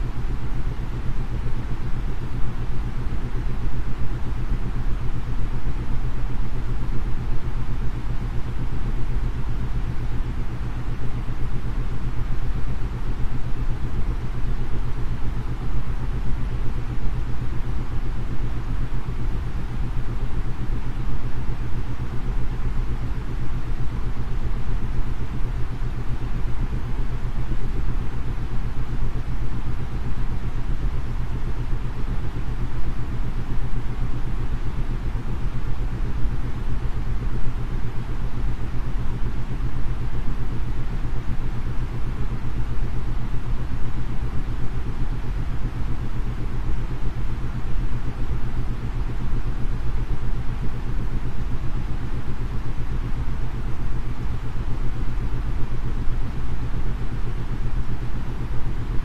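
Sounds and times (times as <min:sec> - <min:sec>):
steady white noise: 0:00.0 - 0:59.0.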